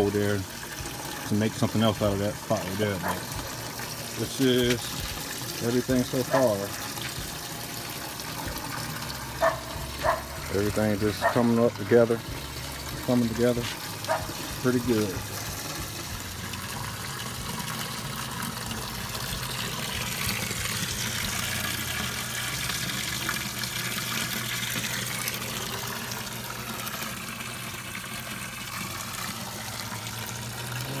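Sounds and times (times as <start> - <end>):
low pump hum: 0.0 - 31.0
waterfall splashing into pond: 0.0 - 31.0.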